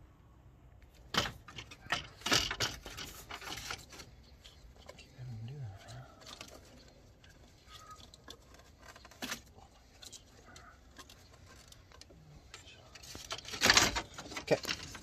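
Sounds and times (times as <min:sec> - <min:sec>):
rustling scrape: 0:02.0 - 0:05.2, 0:06.0 - 0:15.0.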